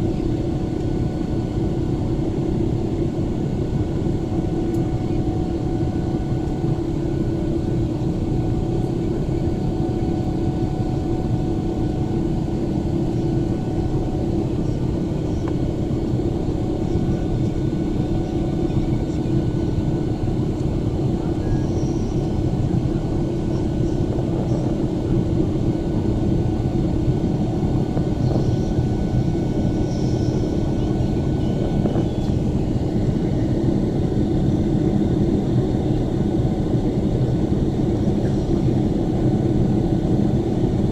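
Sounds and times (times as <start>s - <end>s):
constant low hum: 0.0s - 40.9s
jet engines and airflow rushing: 0.0s - 40.9s.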